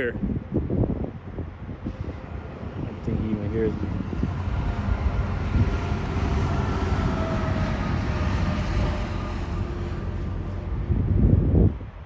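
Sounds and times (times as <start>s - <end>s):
wind rumble on microphone: 0.0s - 12.0s
vehicle passing close by: 1.3s - 12.0s.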